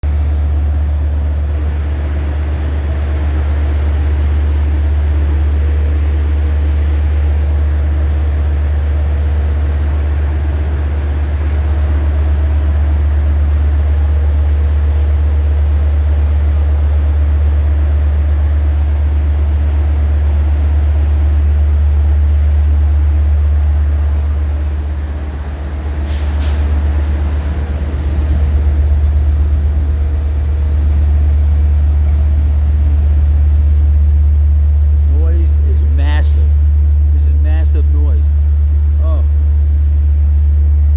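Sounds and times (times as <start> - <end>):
locomotive engine droning: 0.0 - 40.9.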